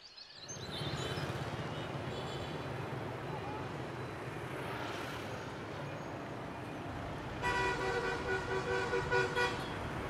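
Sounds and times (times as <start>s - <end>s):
street traffic noise: 0.4s - 10.0s.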